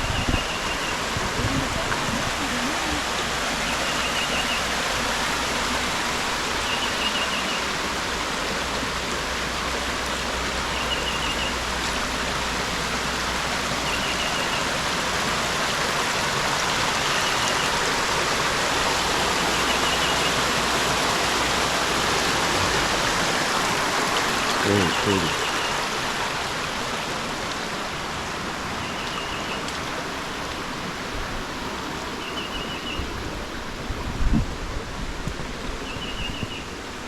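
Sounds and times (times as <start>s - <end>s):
creek water rushing over rocks: 0.0s - 37.0s.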